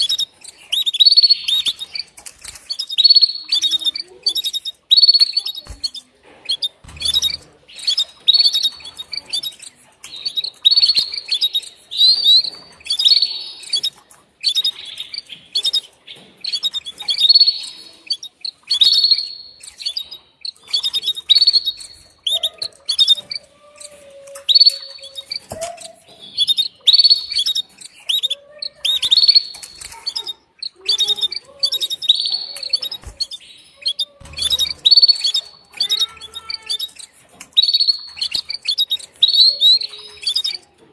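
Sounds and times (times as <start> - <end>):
canary chirping: 0.0 - 40.9.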